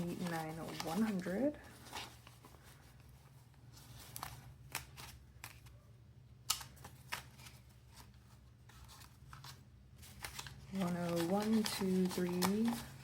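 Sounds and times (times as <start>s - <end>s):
banknotes rustling: 0.0s - 5.8s, 6.5s - 13.0s.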